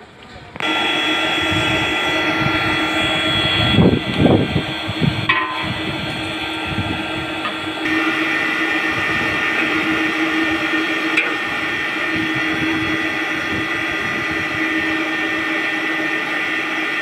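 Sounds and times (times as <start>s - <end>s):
bending machine humming with whine: 0.0s - 17.0s.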